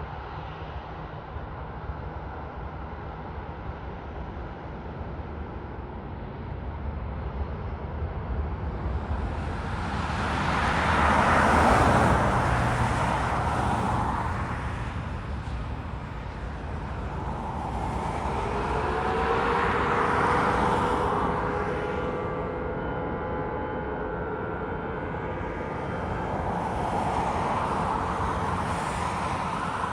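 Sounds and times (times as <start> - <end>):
steady jet engine whine: 0.0 - 29.9.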